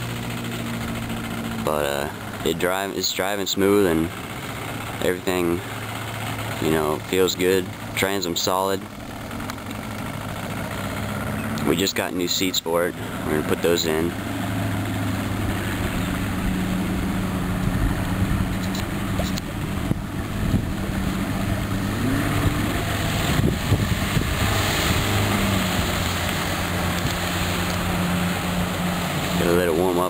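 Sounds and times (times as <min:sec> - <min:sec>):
outboard motor idling: 0:00.0 - 0:30.0.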